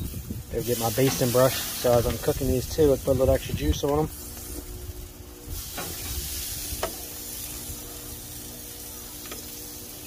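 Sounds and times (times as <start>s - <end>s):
marinade sizzling in a metal pan: 0.0s - 10.0s.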